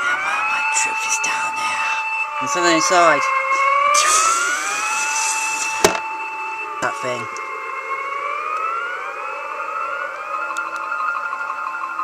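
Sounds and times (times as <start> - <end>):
siren-like electronic warble: 0.0 - 12.0.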